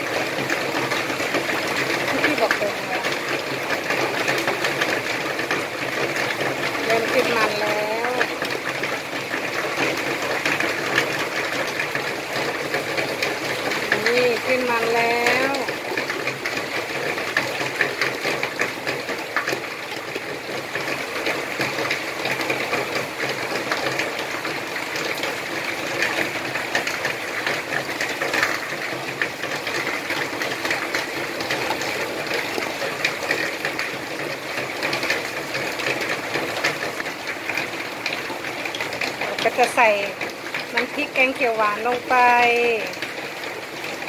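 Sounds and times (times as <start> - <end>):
coconut cream simmering in a pot: 0.0 - 44.0.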